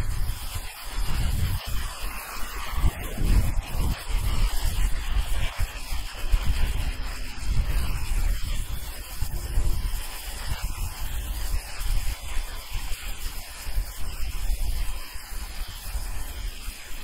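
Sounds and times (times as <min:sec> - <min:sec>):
pressure washer jet hissing: 0:00.0 - 0:17.0
wind rumble on microphone: 0:00.0 - 0:17.0.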